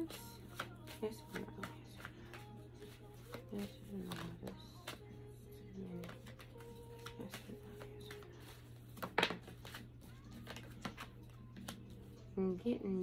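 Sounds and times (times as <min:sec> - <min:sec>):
card slapping: 0:00.0 - 0:05.0, 0:06.0 - 0:11.9
cards rustling and clicking: 0:00.0 - 0:05.0, 0:05.9 - 0:12.0.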